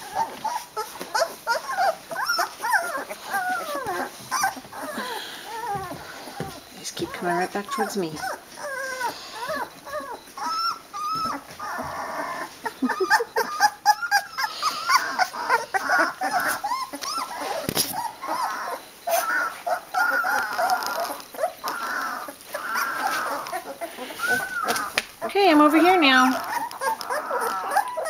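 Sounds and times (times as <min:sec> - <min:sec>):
puppies whimpering and squeaking: 0:00.0 - 0:28.0.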